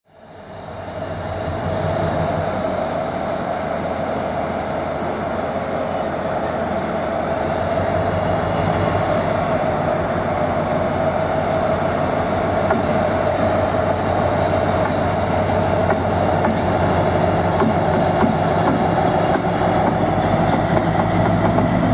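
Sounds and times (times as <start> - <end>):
diesel locomotive engine running: 0.1 - 21.9.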